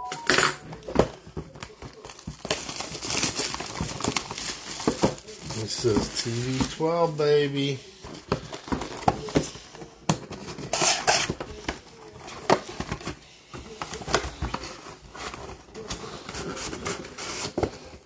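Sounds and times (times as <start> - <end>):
cardboard rustle: 0.7 - 18.0.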